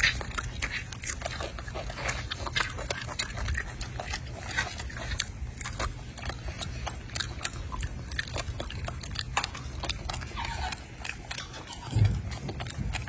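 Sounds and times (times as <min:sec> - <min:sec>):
monkey chewing crunchy food: 0:00.0 - 0:13.0.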